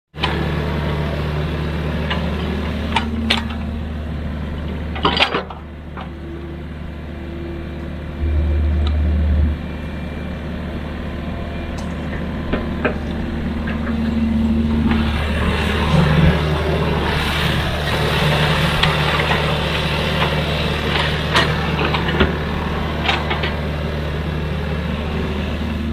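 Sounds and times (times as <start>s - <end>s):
diesel machinery engine drone: 0.2s - 25.9s.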